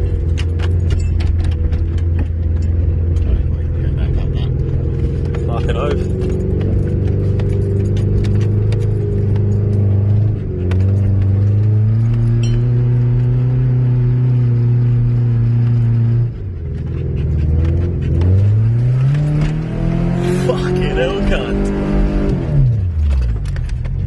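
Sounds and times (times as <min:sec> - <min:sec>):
car engine pulling under load: 0:00.0 - 0:24.0.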